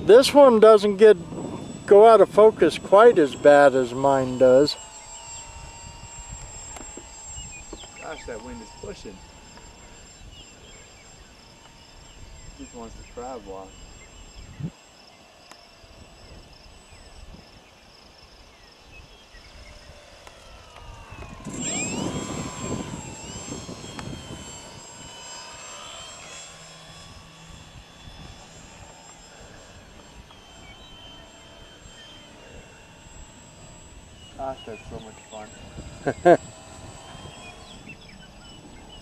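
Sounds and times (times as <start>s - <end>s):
low wind rumble: 0.0s - 14.8s, 15.8s - 25.6s, 26.2s - 39.0s
model airplane motor whining: 0.0s - 39.0s.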